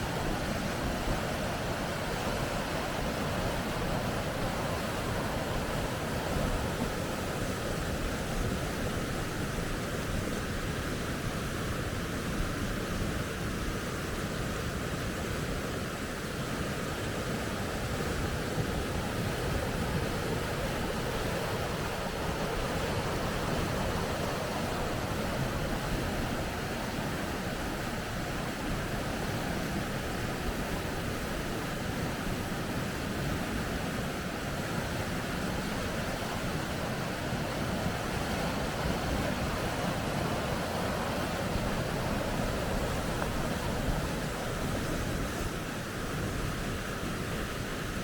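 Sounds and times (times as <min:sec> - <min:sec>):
water rushing over rocks: 0:00.0 - 0:48.0.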